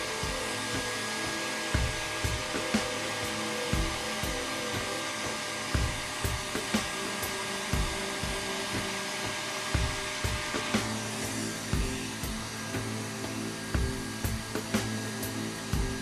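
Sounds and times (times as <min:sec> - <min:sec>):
heat gun blowing air: 0:00.0 - 0:16.0.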